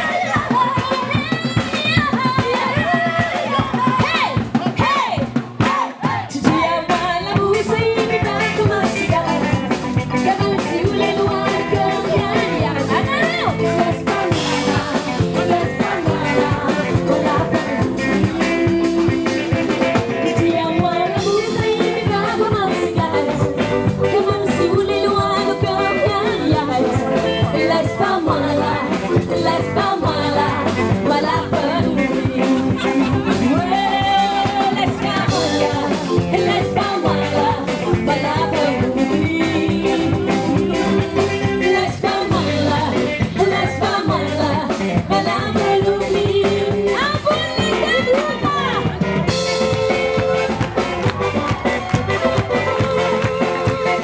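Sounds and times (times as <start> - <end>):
woman singing into a microphone: 0.0 - 49.1, 52.6 - 54.0.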